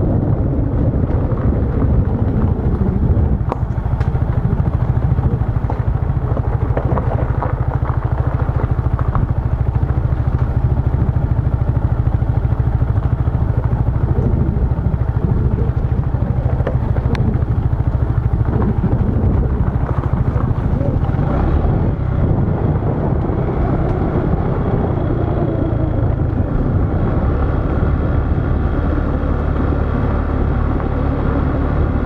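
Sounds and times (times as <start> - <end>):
motorbike engine running: 0.0 - 32.0.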